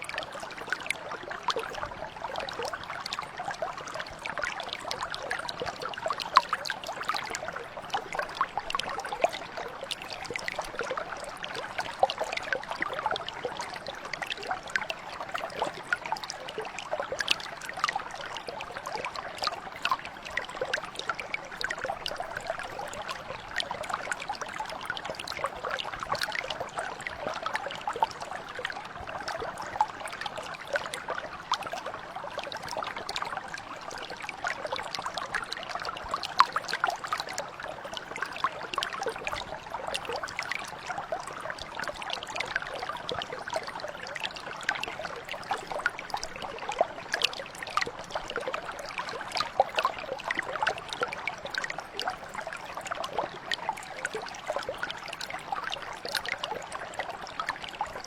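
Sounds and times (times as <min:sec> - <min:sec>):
brook flowing over stones: 0:00.0 - 0:58.0.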